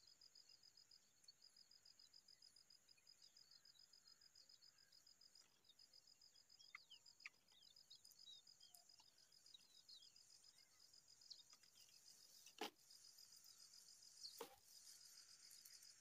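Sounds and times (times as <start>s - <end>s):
high insect trill: 1.6s - 16.0s.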